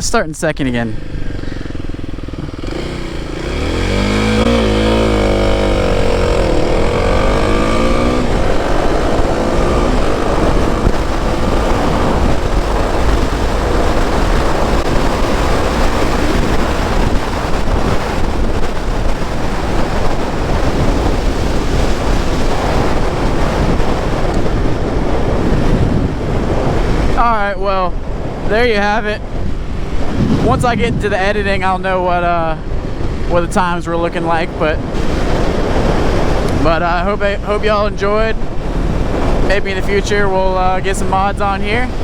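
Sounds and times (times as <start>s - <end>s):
wind rushing over microphone: 0.0s - 42.0s
motorcycle engine accelerating: 0.7s - 42.0s.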